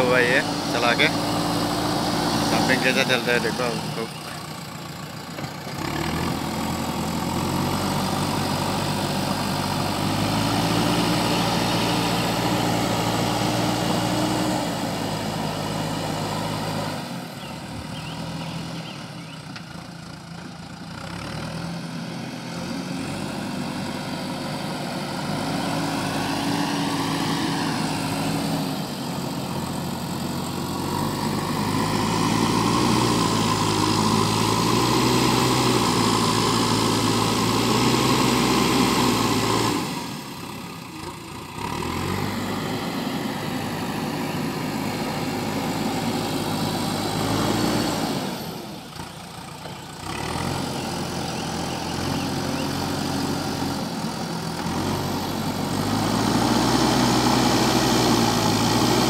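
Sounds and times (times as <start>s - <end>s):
diesel engine working: 0.0s - 59.0s.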